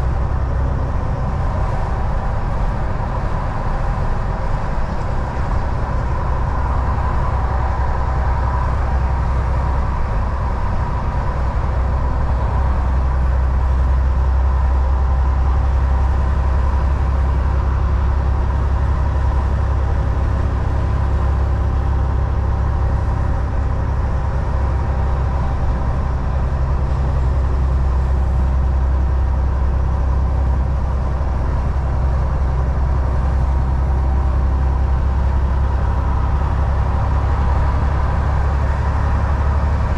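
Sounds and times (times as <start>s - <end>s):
truck diesel engine drone: 0.0s - 39.9s
tyre and road noise: 0.0s - 39.9s.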